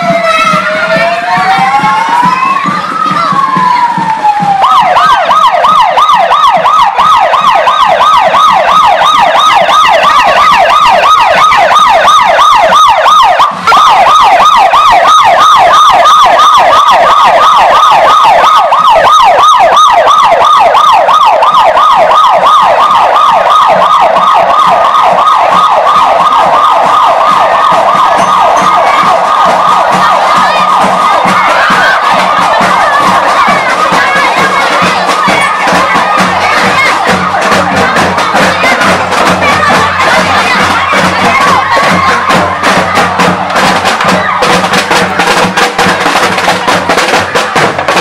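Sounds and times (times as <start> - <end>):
electronic siren yelping: 0.0 - 43.4.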